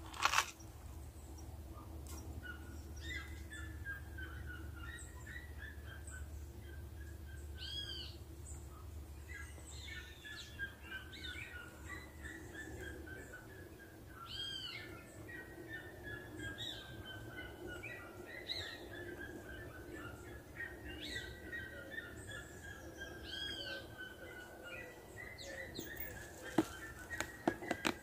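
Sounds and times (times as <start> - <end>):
wild birds chirping: 0.0 - 28.0.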